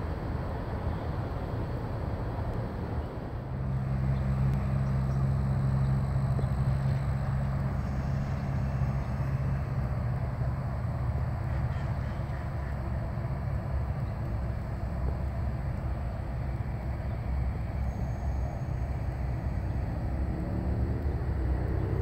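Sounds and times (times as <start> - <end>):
outdoor background noise: 0.0 - 22.0
traffic engine hum: 0.0 - 22.0.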